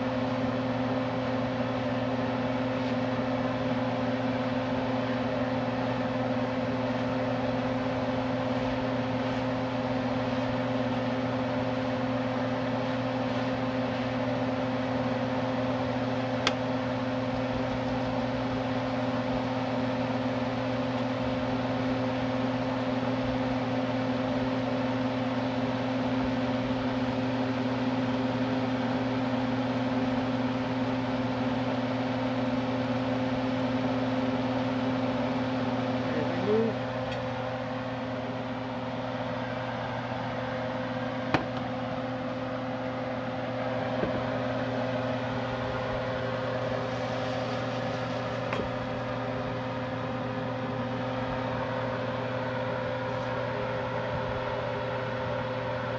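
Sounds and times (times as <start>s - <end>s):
exhaust fan motor hum: 0.0s - 55.9s.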